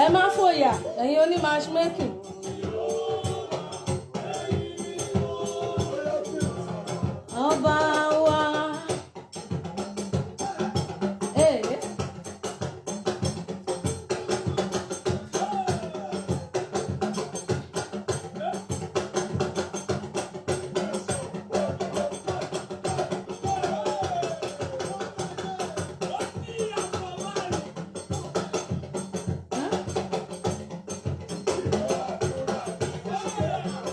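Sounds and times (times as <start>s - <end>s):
fast clicking percussion: 0.0s - 33.9s.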